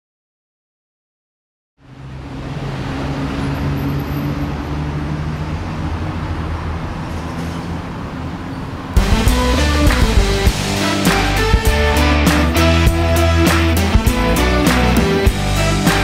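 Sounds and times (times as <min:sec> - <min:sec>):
urban traffic drone: 0:01.8 - 0:16.0.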